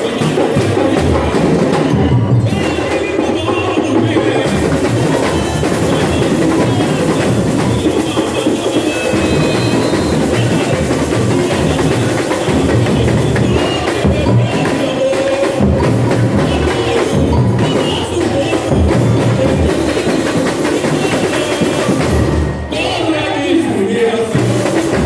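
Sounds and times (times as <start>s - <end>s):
samba drums and percussion: 0.0s - 25.0s.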